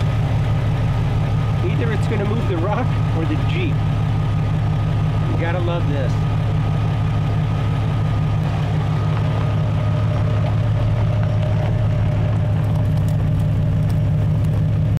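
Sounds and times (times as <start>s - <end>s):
vehicle engine running at low speed: 0.0s - 15.0s.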